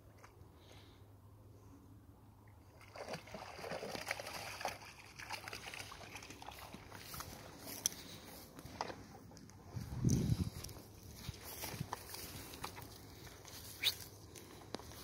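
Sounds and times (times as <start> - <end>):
water splashing and sloshing: 2.4 - 15.0.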